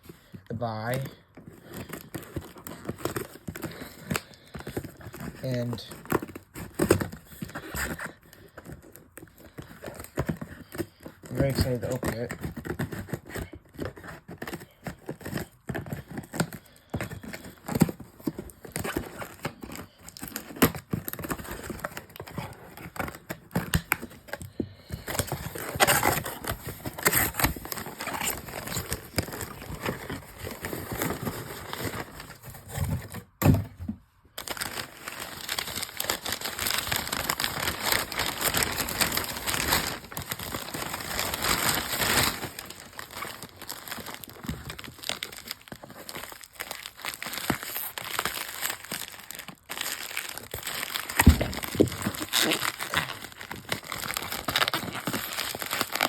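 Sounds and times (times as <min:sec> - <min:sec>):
wrapping crumpling and crinkling: 0:00.0 - 0:56.0
packaging tearing: 0:00.6 - 0:33.4, 0:34.4 - 0:56.0.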